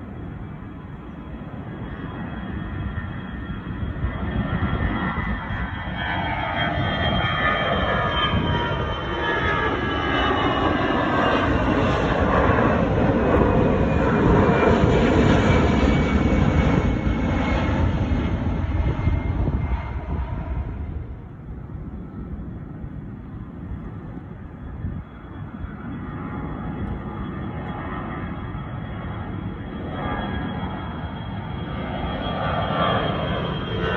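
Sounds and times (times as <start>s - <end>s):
jet airliner taking off: 0.0s - 33.9s.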